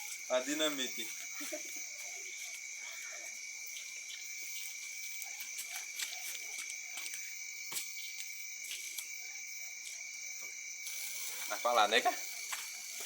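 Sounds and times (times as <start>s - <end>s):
insects and frogs trilling: 0.0s - 13.0s.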